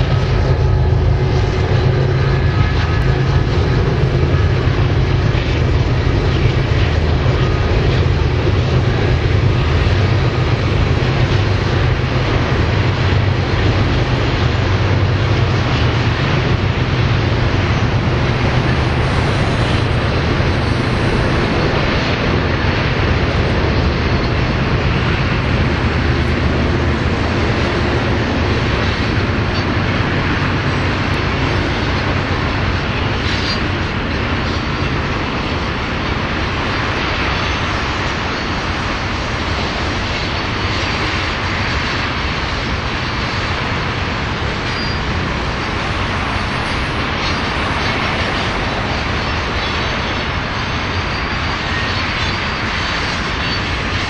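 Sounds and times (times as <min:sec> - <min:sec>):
diesel locomotive drone: 0:00.0 - 0:54.0
train wheels rumbling on rails: 0:00.0 - 0:54.0.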